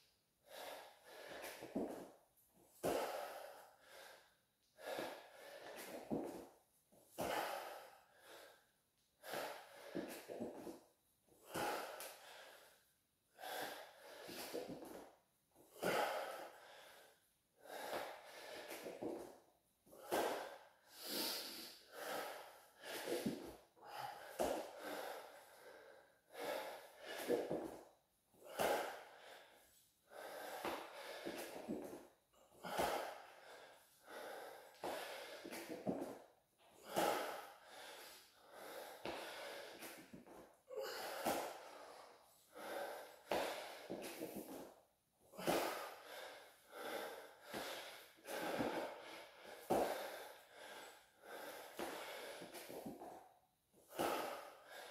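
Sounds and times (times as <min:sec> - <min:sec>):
man panting: 0:00.4 - 0:02.1, 0:02.8 - 0:06.4, 0:07.2 - 0:10.7, 0:11.4 - 0:15.0, 0:15.7 - 0:19.2, 0:19.9 - 0:27.8, 0:28.4 - 0:36.2, 0:36.8 - 0:44.7, 0:45.3 - 0:53.2, 0:53.8 - 0:54.9.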